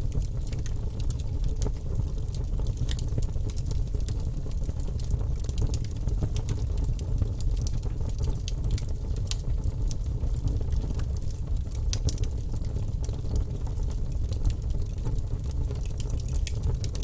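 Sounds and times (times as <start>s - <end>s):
burning wood crackling: 0.0s - 17.0s
low rumble of flames: 0.0s - 17.0s.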